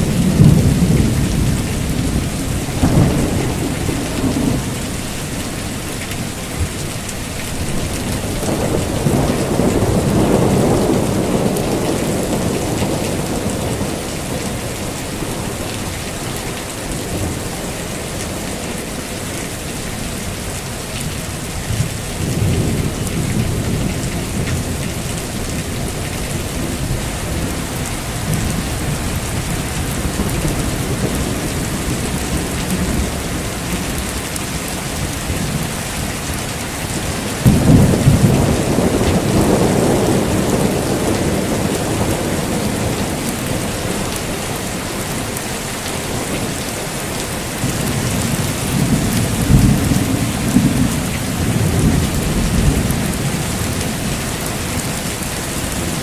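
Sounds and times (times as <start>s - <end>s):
rolling thunder: 0.0s - 18.9s, 21.2s - 45.4s, 46.0s - 56.0s
heavy rain: 0.0s - 56.0s.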